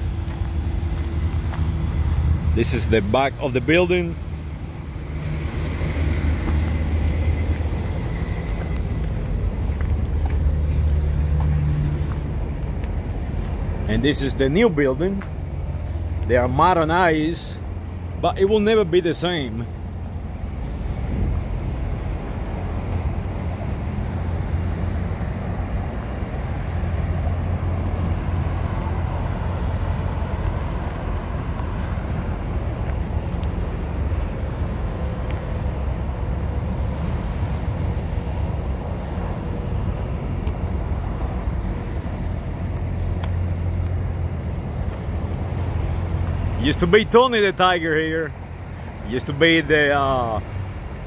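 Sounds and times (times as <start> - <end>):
road traffic rumble: 0.0 - 51.0.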